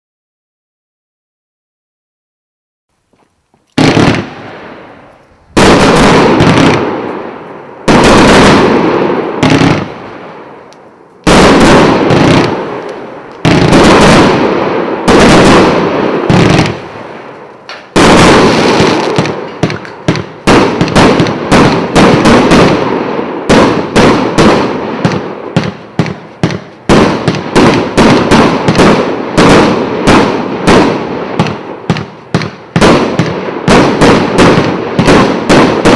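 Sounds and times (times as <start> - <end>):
fireworks cake firing: 3.1 - 35.9.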